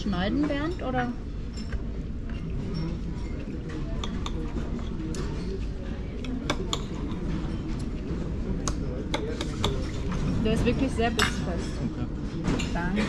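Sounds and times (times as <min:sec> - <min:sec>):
murmur of background chatter: 0:00.0 - 0:13.0
cutlery clinking on plates: 0:00.3 - 0:05.6, 0:06.2 - 0:13.0.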